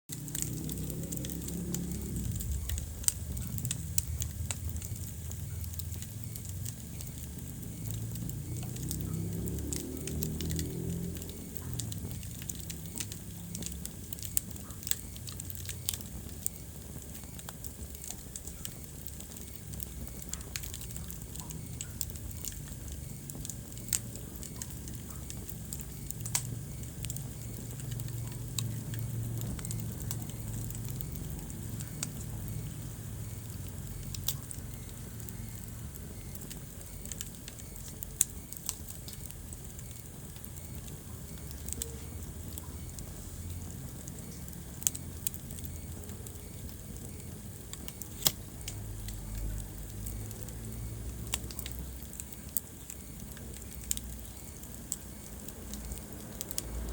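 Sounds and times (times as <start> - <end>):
low rumble of flames: 0.1 - 56.9
wood fire crackling and popping: 0.1 - 56.9.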